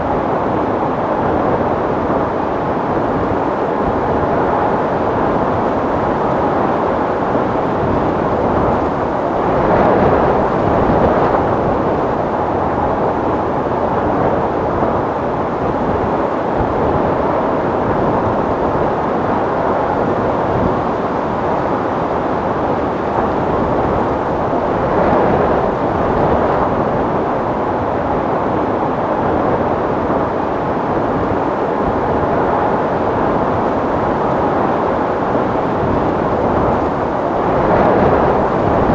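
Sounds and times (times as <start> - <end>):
strong wind blowing: 0.0 - 38.9.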